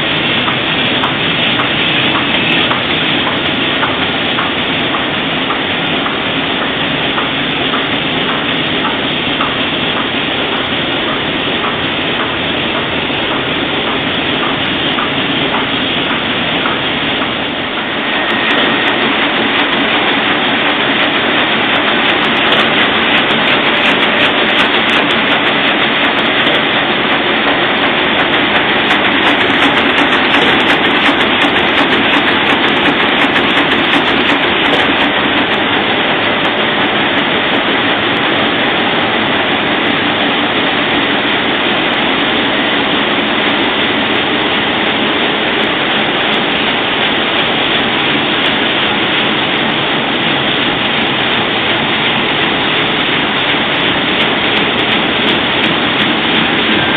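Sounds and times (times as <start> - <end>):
printing press running: 0.0 - 56.9.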